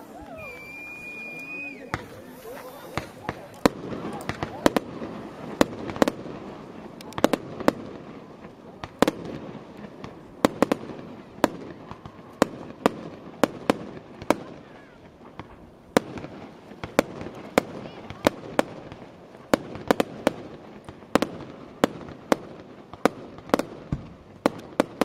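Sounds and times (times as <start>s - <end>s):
fireworks bangs: 0.0s - 25.0s
murmur of crowd voices: 0.0s - 25.0s.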